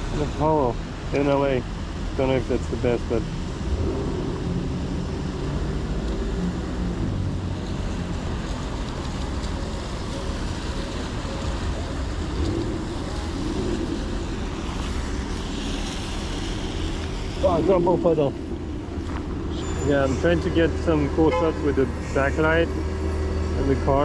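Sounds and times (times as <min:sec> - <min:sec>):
heavy rain: 0:00.0 - 0:21.2
car traffic on wet street: 0:00.0 - 0:24.0.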